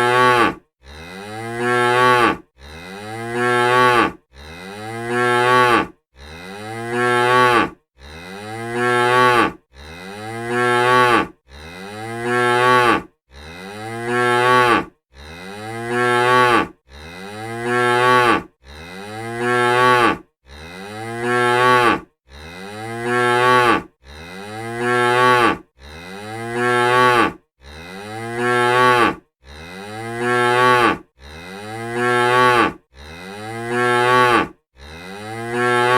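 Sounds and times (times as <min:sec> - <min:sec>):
cow mooing: 0:00.0 - 0:35.9.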